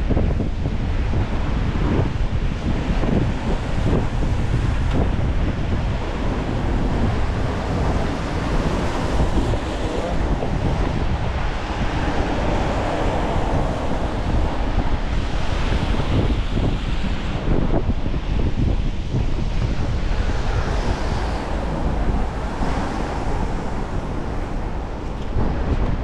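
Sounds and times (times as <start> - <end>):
wind blowing on microphone: 0.0 - 26.0.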